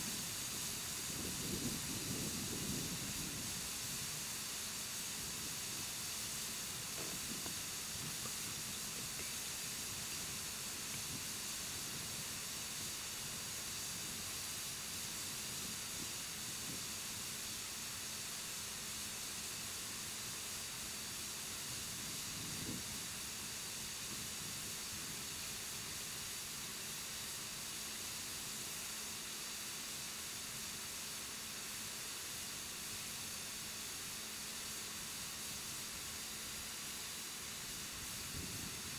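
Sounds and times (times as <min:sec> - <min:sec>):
air hissing from inner tube: 0:00.0 - 0:38.9.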